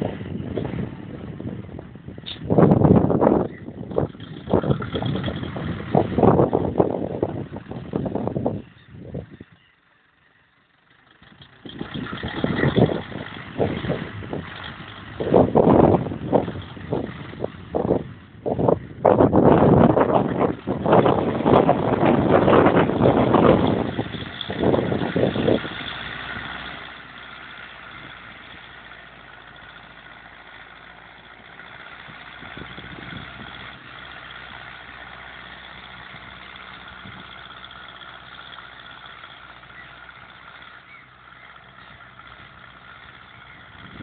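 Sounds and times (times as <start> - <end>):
wind buffeting microphone: 0.0 - 9.6, 11.2 - 38.1, 41.6 - 44.0
tractor diesel engine running: 0.0 - 44.0.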